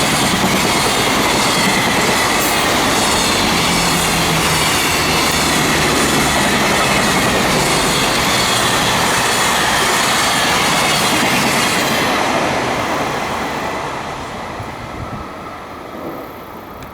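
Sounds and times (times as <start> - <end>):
freight train wheels clattering on rails: 0.0 - 14.8.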